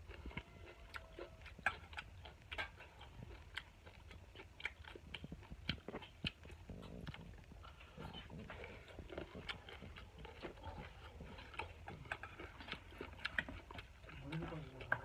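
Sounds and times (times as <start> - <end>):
person chewing: 0.0 - 15.0
wet mouth clicks and smacks: 0.1 - 15.0.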